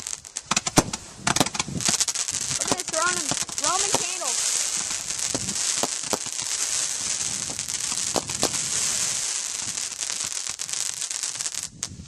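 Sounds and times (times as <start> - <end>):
firework hissing and crackling: 0.0 - 12.0
firework pops: 0.0 - 12.0.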